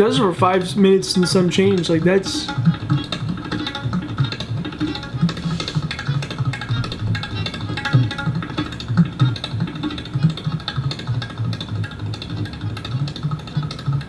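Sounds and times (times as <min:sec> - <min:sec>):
fast tabla strokes: 0:00.0 - 0:14.0.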